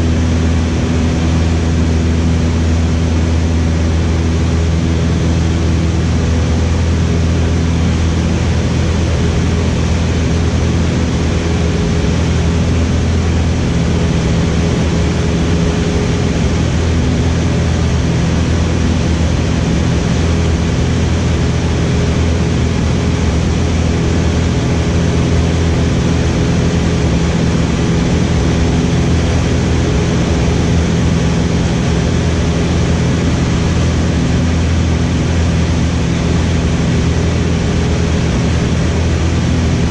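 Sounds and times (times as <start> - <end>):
small plane engine droning: 0.0 - 39.9.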